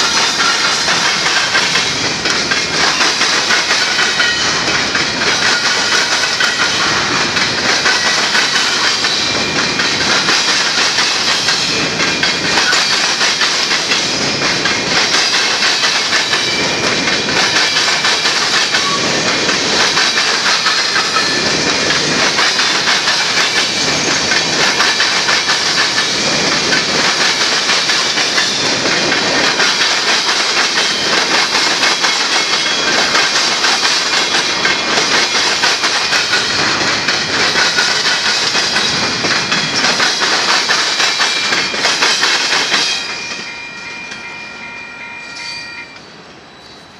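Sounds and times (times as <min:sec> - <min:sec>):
clickety-clack over rail joints: 0:00.0 - 0:44.4
train wheels rumbling and rattling: 0:00.0 - 0:46.9.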